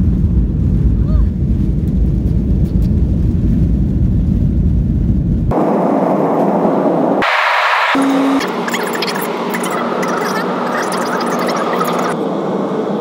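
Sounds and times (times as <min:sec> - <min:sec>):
engine and wheel rumble: 0:00.0 - 0:13.0.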